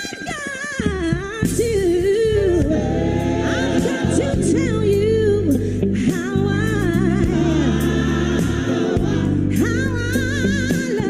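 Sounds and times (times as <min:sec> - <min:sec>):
gospel singing voices: 0:01.5 - 0:11.0.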